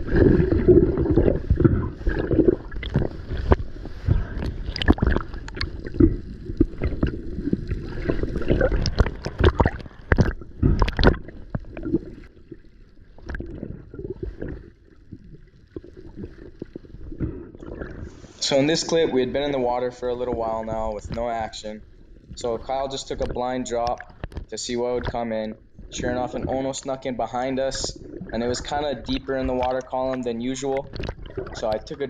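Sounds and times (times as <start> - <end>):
water gurgling and sloshing: 0.0 - 32.0.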